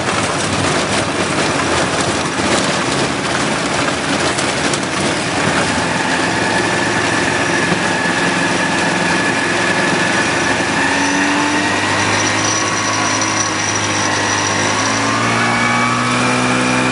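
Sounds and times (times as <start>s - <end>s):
ultralight aircraft engine running: 0.0s - 16.9s.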